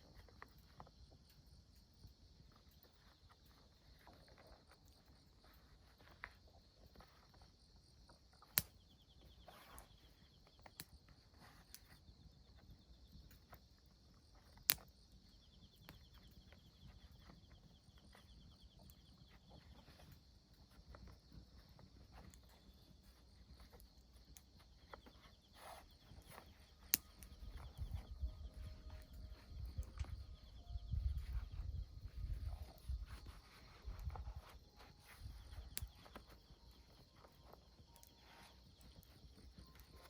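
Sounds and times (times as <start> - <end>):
insects trilling: 0.0 - 40.0
lower insect trill: 0.0 - 40.0.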